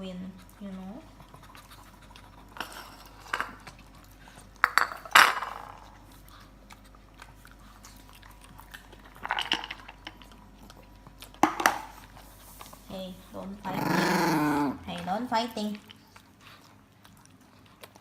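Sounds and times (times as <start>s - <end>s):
dogs chewing and crunching: 0.0s - 13.8s, 14.4s - 18.0s.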